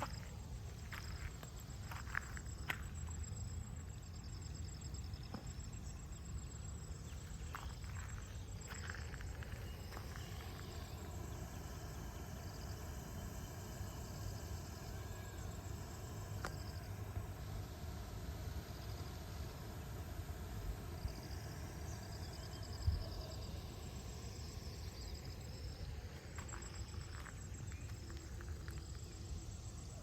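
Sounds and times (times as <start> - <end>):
insects trilling: 0.0 - 30.0
steady low rumble: 0.0 - 30.0.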